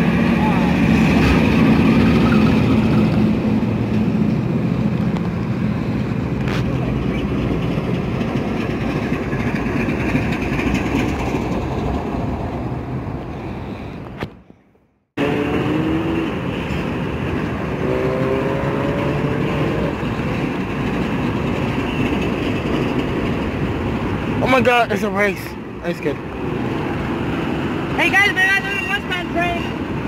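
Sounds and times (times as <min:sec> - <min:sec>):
diesel locomotives passing: 0:00.0 - 0:14.2, 0:15.2 - 0:30.0
rail noise: 0:00.0 - 0:30.0.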